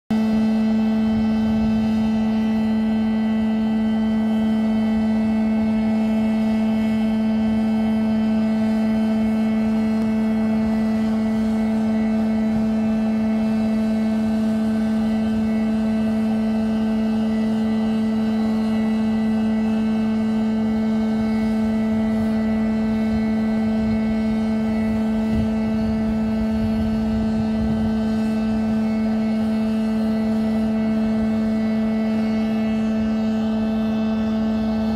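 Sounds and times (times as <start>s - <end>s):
aircraft turbine idling: 0.1s - 34.9s.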